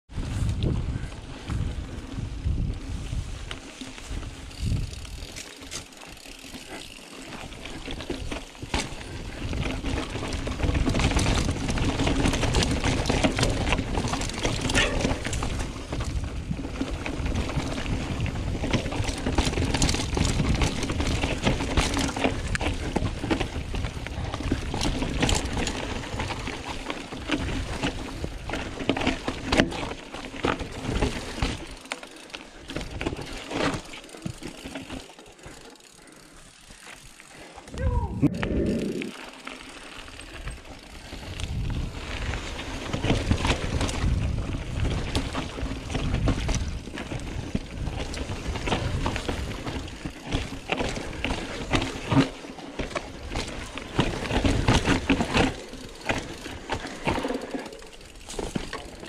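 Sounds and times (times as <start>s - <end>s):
bike rattling over bumps: 0.1s - 59.0s
bike tyres rolling on dirt: 0.1s - 59.0s.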